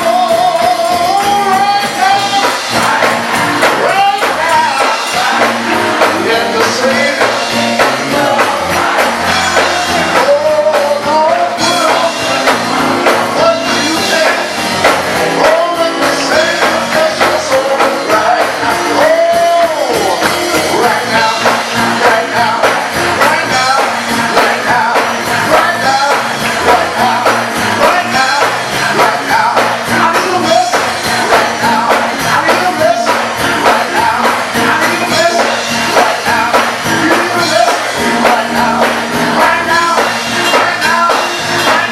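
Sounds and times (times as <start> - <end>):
gospel choir singing with band: 0.0 - 41.9
tambourine shaking: 0.0 - 41.9.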